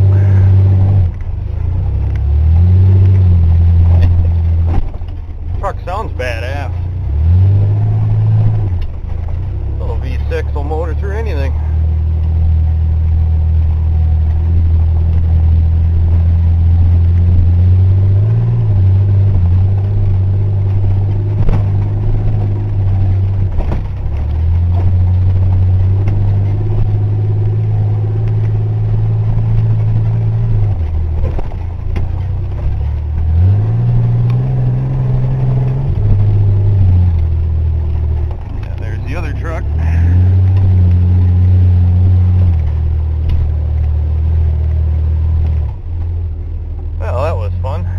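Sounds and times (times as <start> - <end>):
truck engine revving off-road: 0.0 - 47.9.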